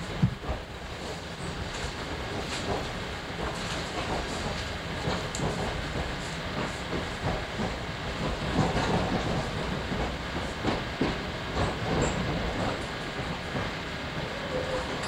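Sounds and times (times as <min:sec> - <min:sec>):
train rumbling on track: 0:00.0 - 0:15.0
wheels clacking over rail joints: 0:00.2 - 0:15.0.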